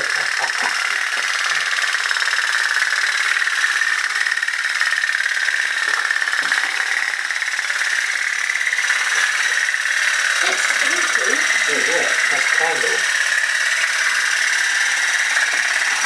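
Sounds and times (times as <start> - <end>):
toy steam boat putt-putt rattle: 0.0 - 16.0.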